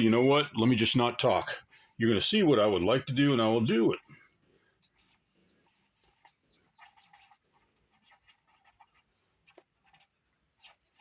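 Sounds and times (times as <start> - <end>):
pen strokes on paper: 1.6 - 11.0.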